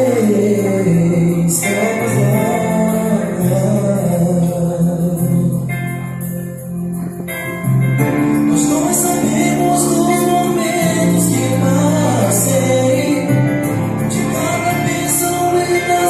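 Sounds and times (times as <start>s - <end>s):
instrumental accompaniment: 0.0s - 16.0s.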